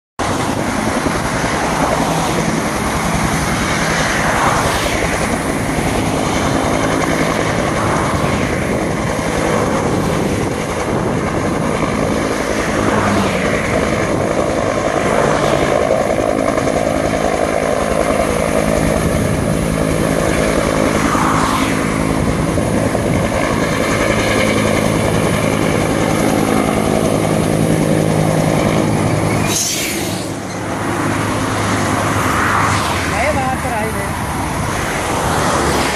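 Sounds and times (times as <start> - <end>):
helicopter in flight: 0.2 - 35.9.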